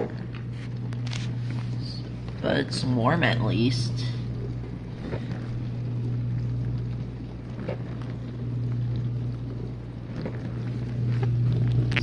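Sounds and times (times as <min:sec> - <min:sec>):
dishwasher pump hum: 0:00.0 - 0:12.0.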